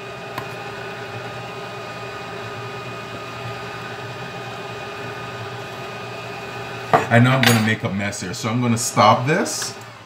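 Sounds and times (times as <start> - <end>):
stand mixer motor humming: 0.0 - 7.1, 8.2 - 10.0.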